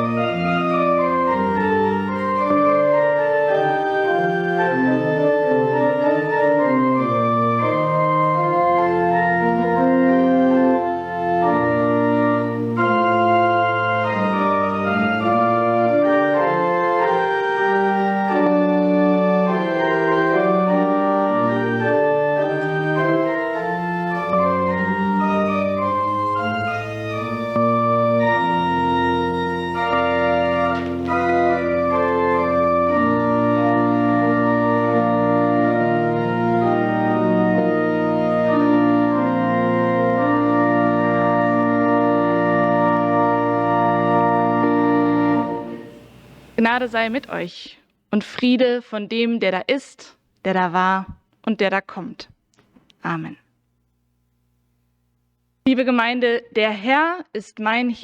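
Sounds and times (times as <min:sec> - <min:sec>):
organ chords: 0:00.0 - 0:47.5.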